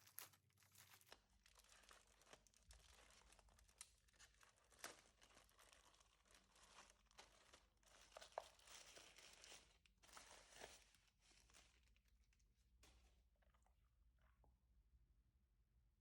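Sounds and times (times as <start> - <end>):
packaging crinkling and rustling: 0.0 - 13.2.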